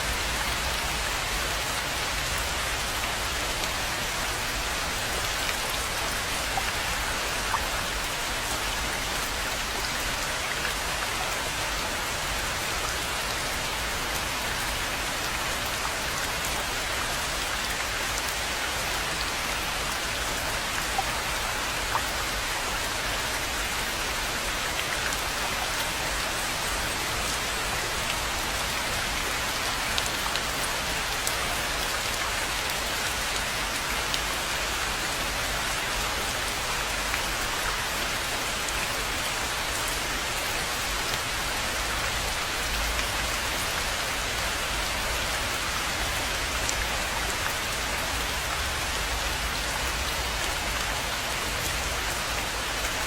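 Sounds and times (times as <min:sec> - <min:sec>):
rain falling on a pond: 0:00.0 - 0:53.0.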